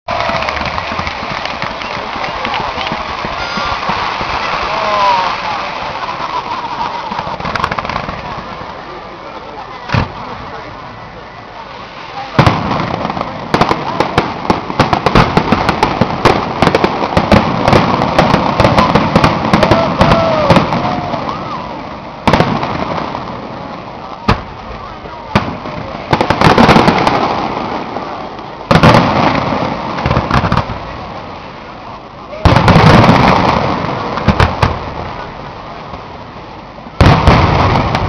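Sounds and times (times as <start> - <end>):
firework crackling: 0.1 - 38.0.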